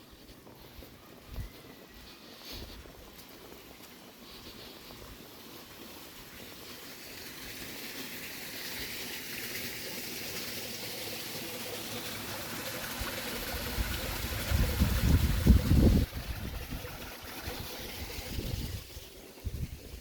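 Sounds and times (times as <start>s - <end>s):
running water: 0.0s - 20.0s.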